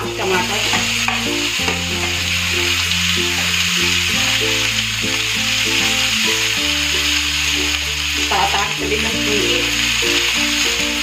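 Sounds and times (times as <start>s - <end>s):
background music: 0.0s - 11.0s
vegetables sizzling in oil: 0.0s - 11.0s.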